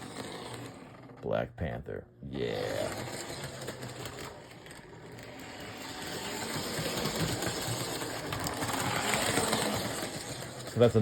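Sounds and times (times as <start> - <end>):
toy train motor whirring: 0.0 - 1.2, 2.3 - 11.0
wheels on rails: 0.0 - 1.2, 2.5 - 11.0.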